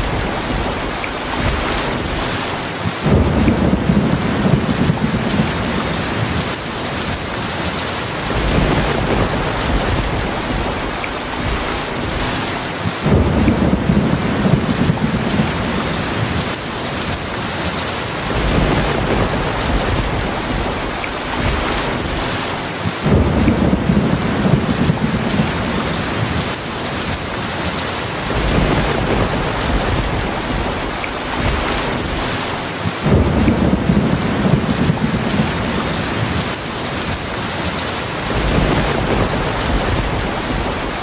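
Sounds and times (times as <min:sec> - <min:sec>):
low rolls of thunder: 0:00.0 - 0:17.1, 0:18.2 - 0:41.0
heavy rain falling: 0:00.0 - 0:41.0.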